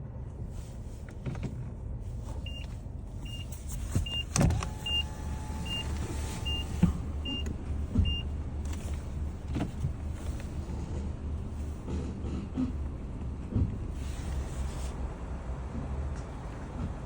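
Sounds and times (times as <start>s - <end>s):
car low rumble: 0.0s - 17.0s.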